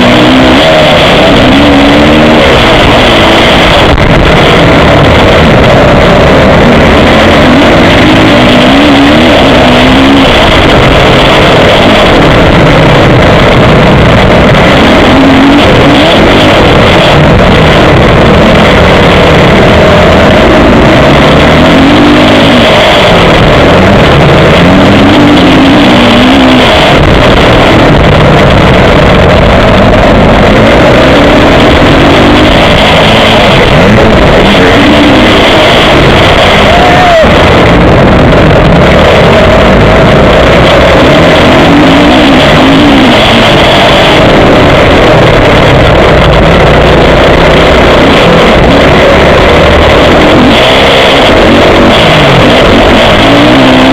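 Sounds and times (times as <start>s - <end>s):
motocross bike engine revving: 0.0s - 53.9s
rushing wind noise: 0.0s - 53.9s.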